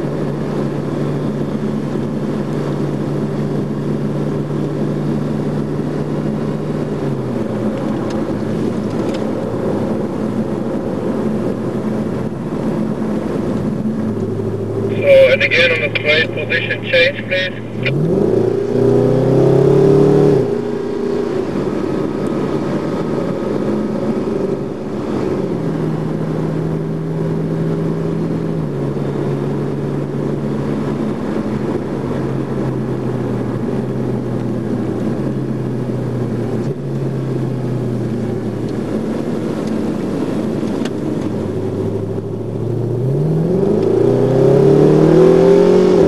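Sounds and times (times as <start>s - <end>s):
car engine revving: 0.1s - 46.0s.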